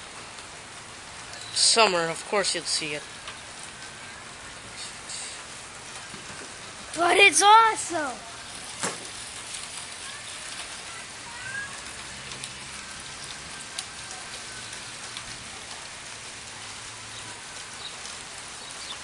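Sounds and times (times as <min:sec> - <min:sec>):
light rain hissing: 0:00.0 - 0:19.0
water dripping on pavement: 0:00.0 - 0:19.0.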